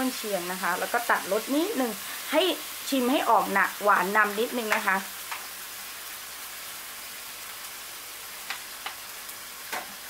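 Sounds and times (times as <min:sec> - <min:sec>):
food sizzling in a wok: 0:00.0 - 0:10.0.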